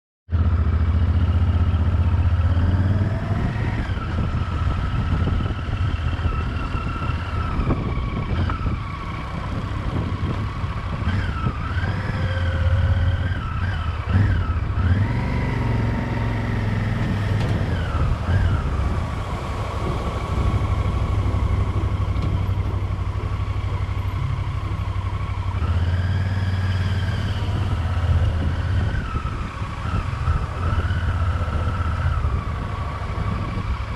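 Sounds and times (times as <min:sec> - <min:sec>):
motorcycle engine whining: 0:00.3 - 0:33.9.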